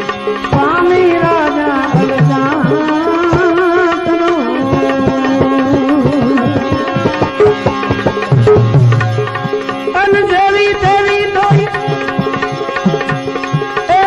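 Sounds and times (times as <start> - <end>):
wavering melody instrument: 0.0 - 14.0
hand drum strokes: 0.5 - 14.0.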